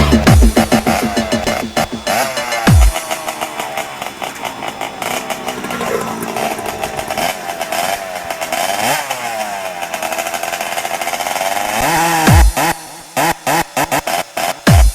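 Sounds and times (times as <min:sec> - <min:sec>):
cnc router motor whine: 0:00.0 - 0:13.4.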